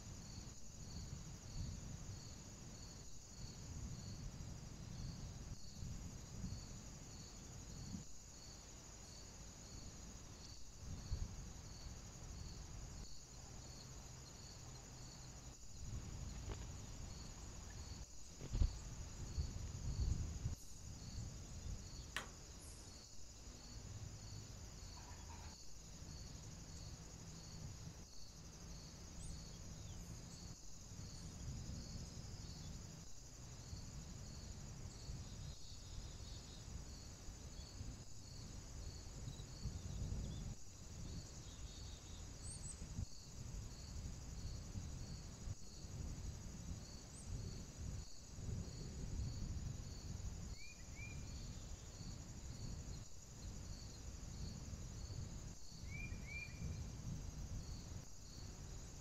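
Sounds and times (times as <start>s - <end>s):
high-pitched insect trill: 0.0s - 59.0s.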